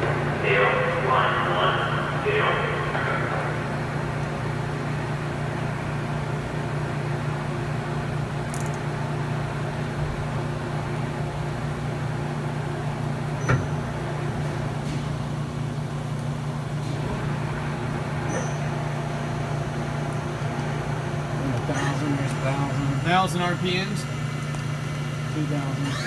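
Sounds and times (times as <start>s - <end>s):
machining center humming: 0.0s - 26.0s.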